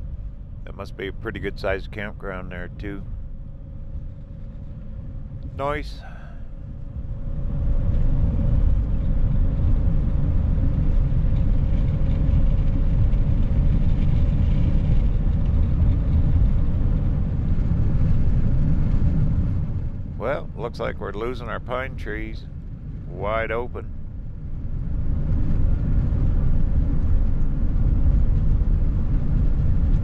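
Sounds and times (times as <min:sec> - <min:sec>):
faint constant hum: 0:00.0 - 0:30.0
vehicle road noise at highway speed: 0:00.0 - 0:30.0.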